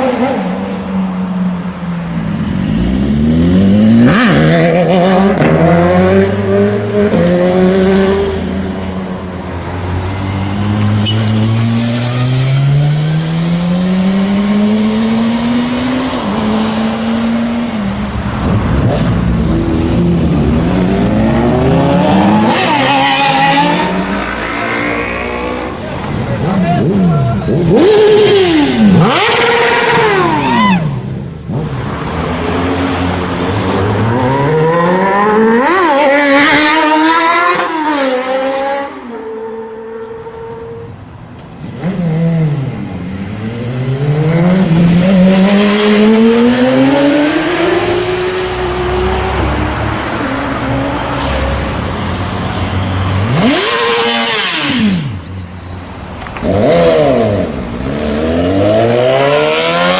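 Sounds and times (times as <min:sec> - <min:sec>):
motorcycles accelerating hard: 0:02.2 - 0:40.3, 0:41.6 - 0:55.6, 0:56.2 - 0:59.9
motorcycle engine revving: 0:10.5 - 0:40.7, 0:41.6 - 0:59.9.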